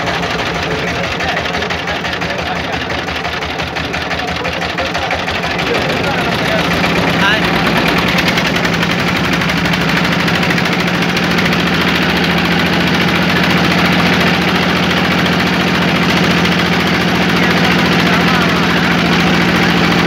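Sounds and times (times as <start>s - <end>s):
motorboat engine droning: 0.0s - 20.0s.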